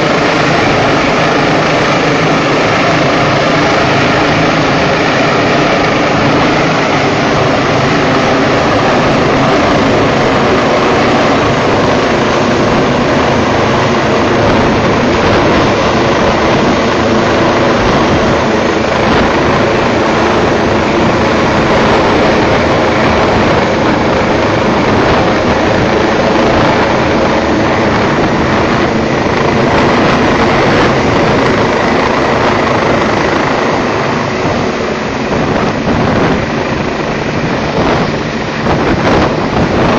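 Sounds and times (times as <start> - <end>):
helicopter hovering overhead: 0.0 - 39.9.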